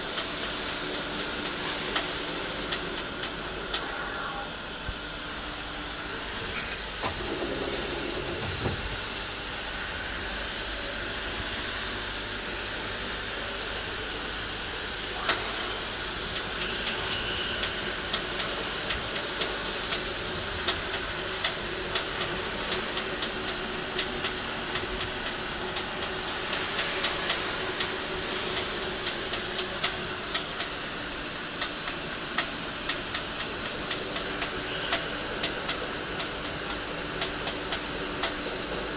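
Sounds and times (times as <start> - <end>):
lathe running with whine: 0.4 - 37.2.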